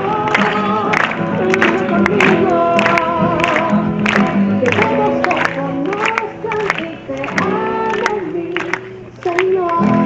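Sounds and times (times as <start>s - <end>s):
group singing praise song: 0.0s - 8.8s.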